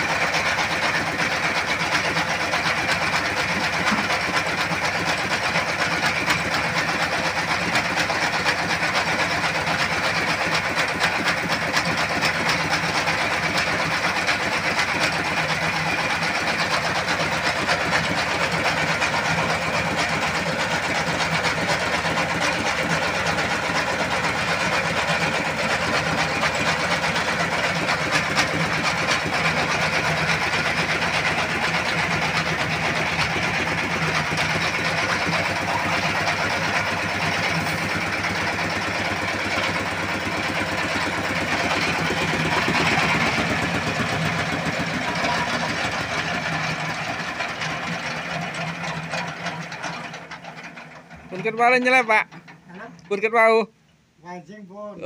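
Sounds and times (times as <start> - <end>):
diesel engine clattering: 0.0 - 53.6.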